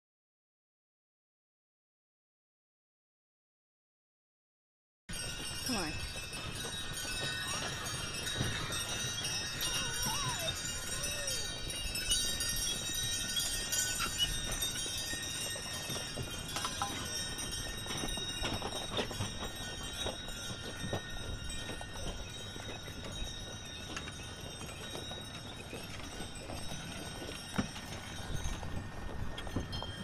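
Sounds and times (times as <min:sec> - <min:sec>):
harness bells jingling: 0:05.1 - 0:30.0
hoofbeats on snow: 0:05.1 - 0:30.0.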